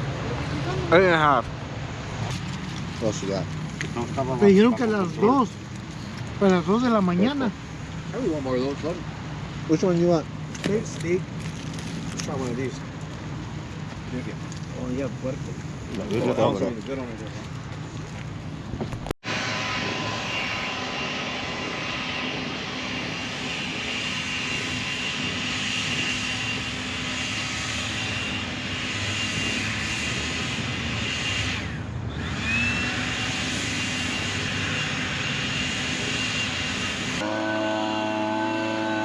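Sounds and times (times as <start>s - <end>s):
steady engine noise: 0.0s - 39.0s.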